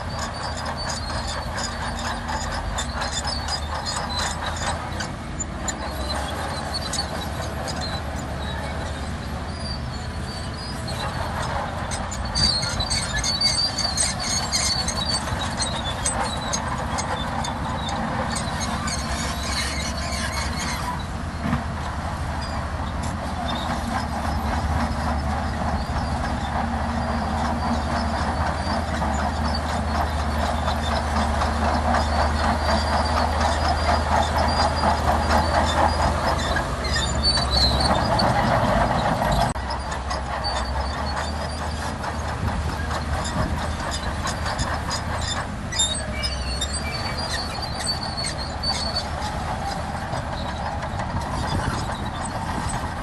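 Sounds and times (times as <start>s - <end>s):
bulldozer diesel engine under load: 0.0s - 53.0s
steel tracks clanking and squealing: 0.0s - 53.0s.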